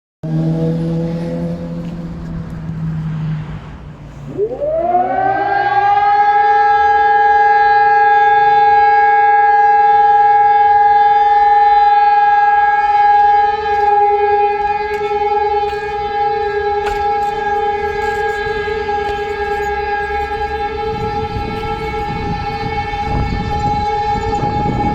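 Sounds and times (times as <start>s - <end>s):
civil defence siren: 0.2s - 24.9s.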